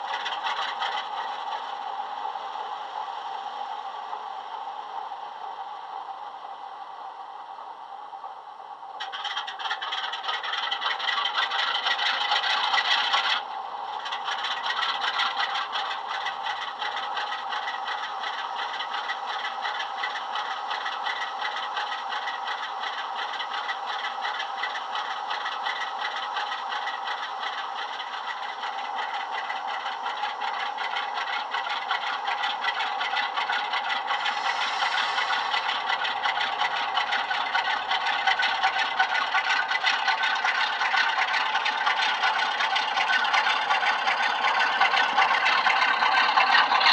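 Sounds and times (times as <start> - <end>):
diesel engine through small speaker: 0.0 - 46.9.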